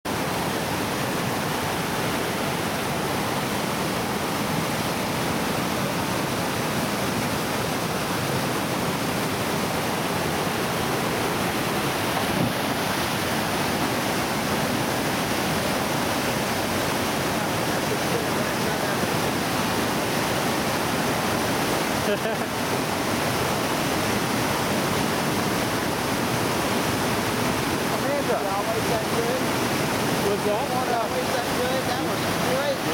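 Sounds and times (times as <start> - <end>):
whitewater rushing: 0.1 - 32.9.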